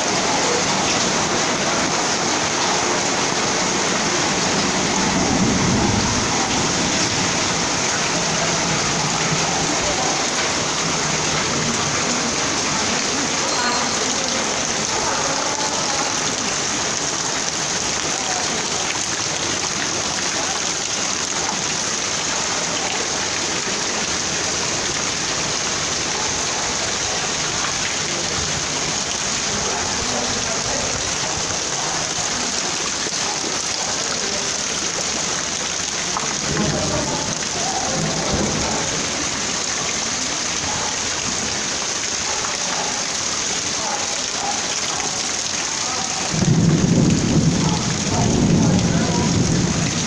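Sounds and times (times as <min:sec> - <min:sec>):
heavy rain on hard surfaces: 0:00.0 - 0:50.0.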